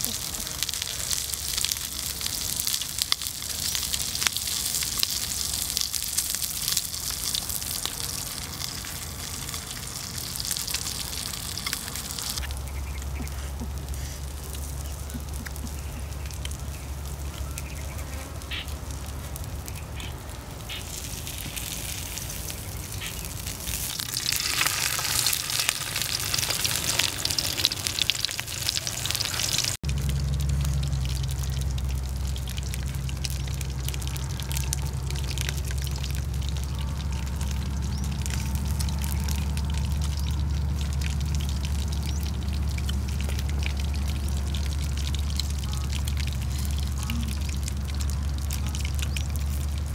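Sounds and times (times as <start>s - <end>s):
fish sizzling in a pan: 0.0s - 49.9s
low rumble: 5.7s - 49.9s.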